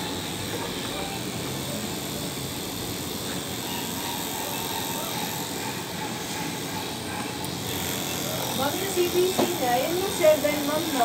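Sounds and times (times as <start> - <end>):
electric pet clippers buzzing: 0.0 - 11.0.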